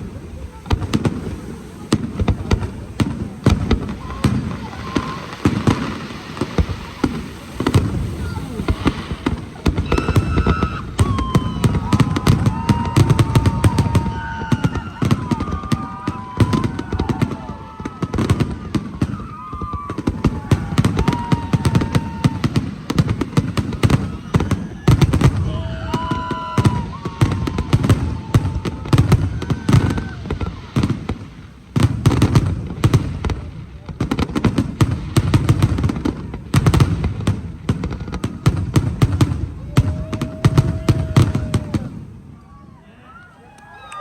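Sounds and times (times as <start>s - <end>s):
fireworks booms: 0.0s - 42.6s
fireworks crackling bangs: 0.0s - 42.7s.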